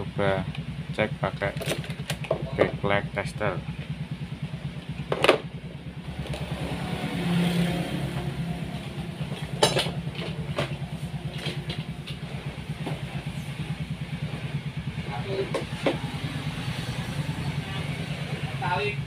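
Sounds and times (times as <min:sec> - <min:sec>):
small engine puttering: 0:00.4 - 0:19.0.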